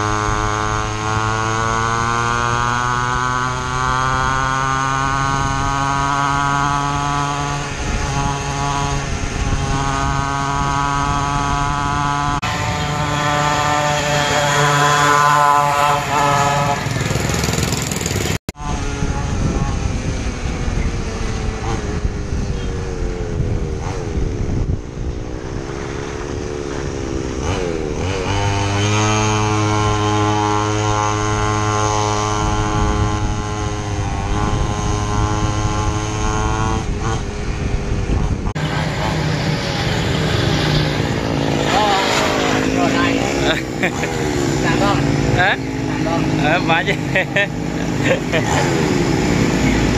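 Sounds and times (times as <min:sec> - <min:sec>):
two-stroke engine revving high: 0:00.0 - 0:49.9.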